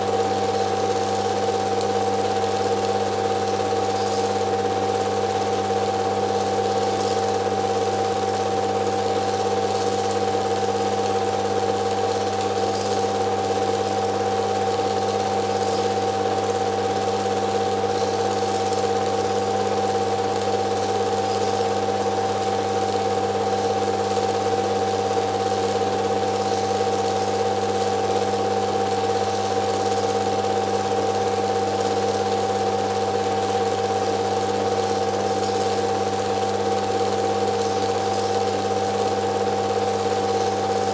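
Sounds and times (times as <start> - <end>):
film projector motor whirring: 0.0 - 40.9.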